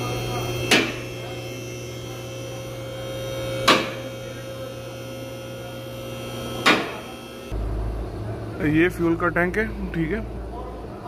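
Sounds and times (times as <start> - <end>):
car lift motor humming: 0.0 - 11.0.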